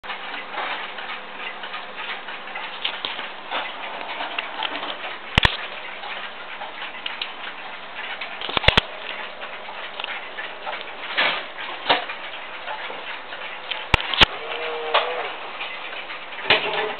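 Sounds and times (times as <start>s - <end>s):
clock ticking: 0.0s - 16.9s.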